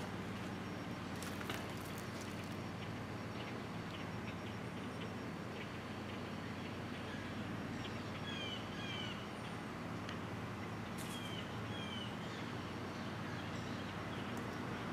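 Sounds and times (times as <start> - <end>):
bird chirping: 0.0 - 9.6, 10.6 - 14.8
low outdoor hum: 0.0 - 14.9.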